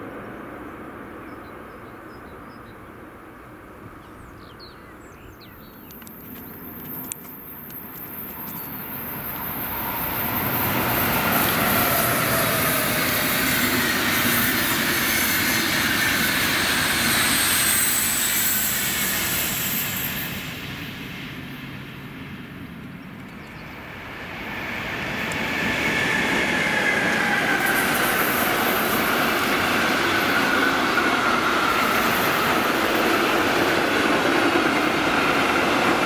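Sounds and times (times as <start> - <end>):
rush of train wheels and coaches: 0.0 - 36.0.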